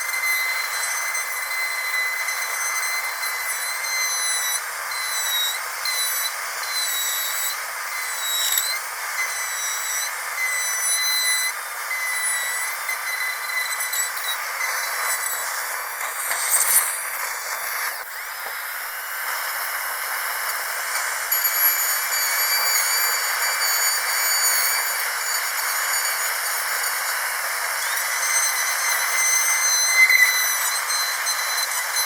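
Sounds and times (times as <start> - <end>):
dental drill whining: 0.0 - 32.0
hiss: 0.0 - 32.0.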